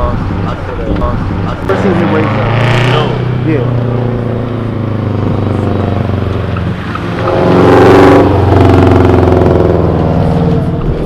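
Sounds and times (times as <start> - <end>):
car engine accelerating past: 1.3 - 11.0.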